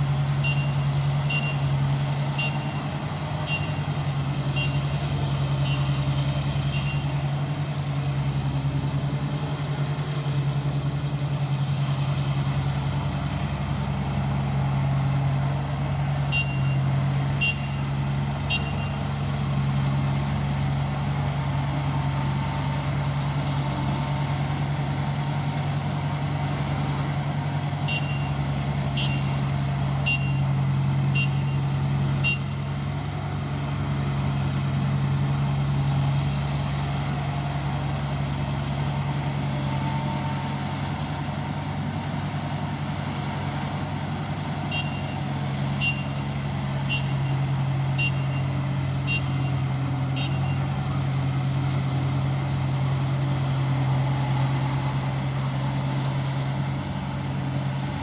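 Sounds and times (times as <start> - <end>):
harvester engine running: 0.0 - 58.0.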